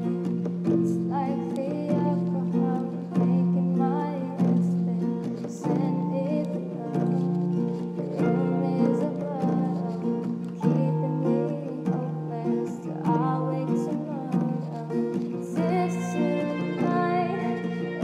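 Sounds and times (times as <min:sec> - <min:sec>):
plucked acoustic guitar chords: 0:00.0 - 0:18.0.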